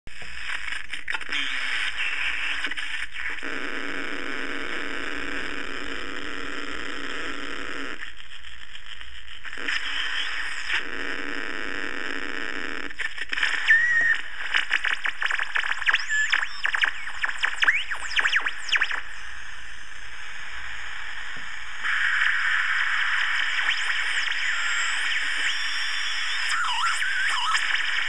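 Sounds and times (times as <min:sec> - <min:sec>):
radio crackles: 0:00.1 - 0:28.0
radio static hiss: 0:00.1 - 0:28.0.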